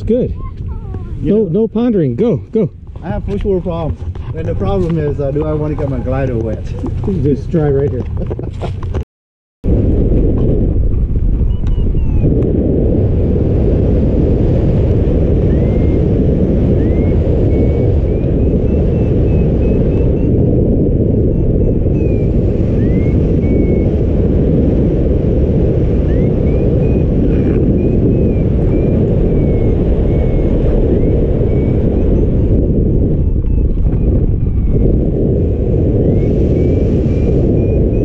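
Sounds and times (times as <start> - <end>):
wind buffeting microphone: 0.0 - 9.0, 9.6 - 38.0.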